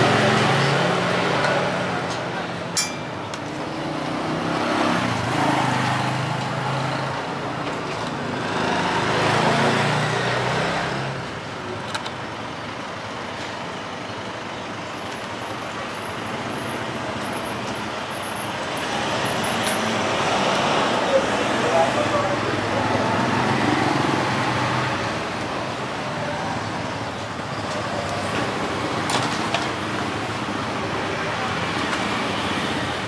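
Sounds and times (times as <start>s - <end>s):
traffic rumble: 0.0s - 33.0s
vehicles passing: 0.0s - 33.0s.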